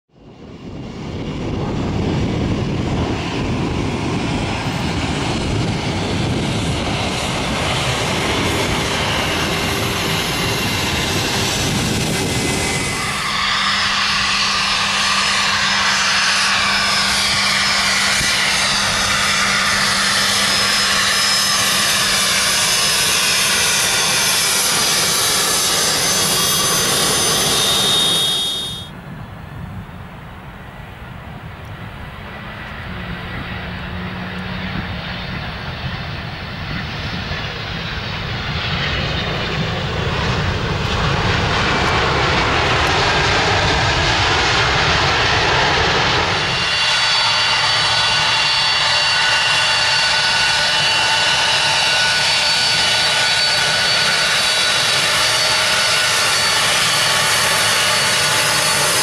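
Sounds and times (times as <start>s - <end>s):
jet engine whine taxiing: 0.1s - 59.0s
jet flying past rumble: 0.2s - 59.0s.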